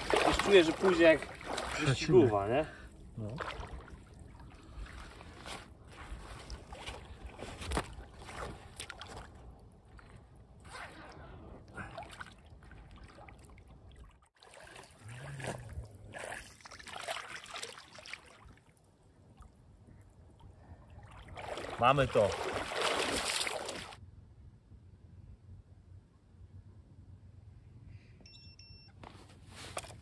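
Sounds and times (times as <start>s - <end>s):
water sloshing and splashing: 0.0s - 24.0s, 29.4s - 30.0s.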